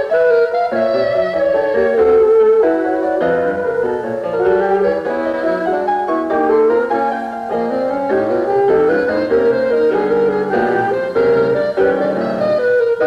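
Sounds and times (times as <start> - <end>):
alto saxophone: 0.0 - 13.0
piano: 0.0 - 13.0.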